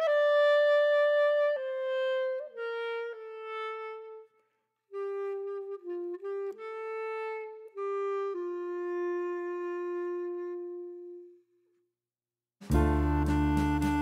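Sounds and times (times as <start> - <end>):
slow woodwind melody: 0.0 - 11.8, 12.7 - 14.0.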